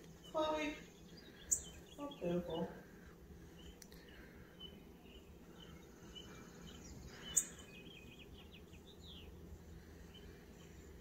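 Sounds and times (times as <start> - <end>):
low background hum: 0.0 - 11.0
small birds chirping: 0.0 - 11.0.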